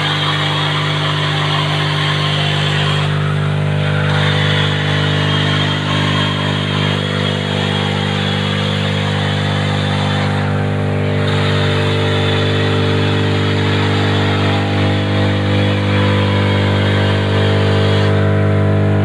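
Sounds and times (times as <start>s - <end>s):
woodworking machine humming and whining: 0.0s - 19.0s.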